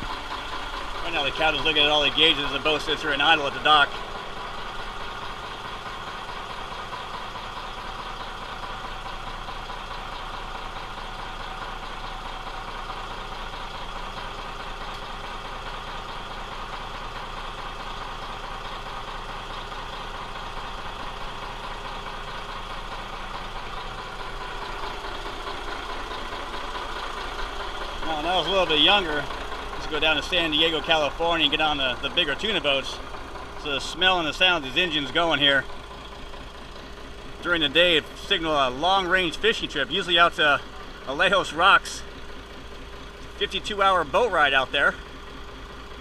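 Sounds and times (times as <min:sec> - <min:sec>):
boat engines idling: 0:00.0 - 0:46.0.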